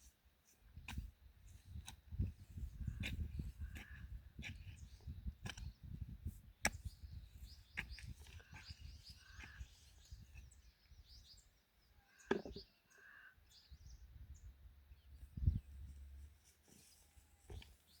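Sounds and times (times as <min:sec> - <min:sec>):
small birds chirping: 0:00.9 - 0:18.0.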